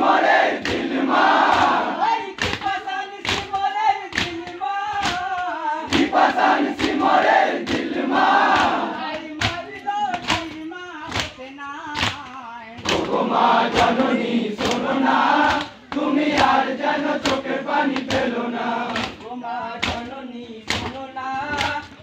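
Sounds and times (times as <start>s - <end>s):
men chanting in chorus: 0.0s - 22.0s.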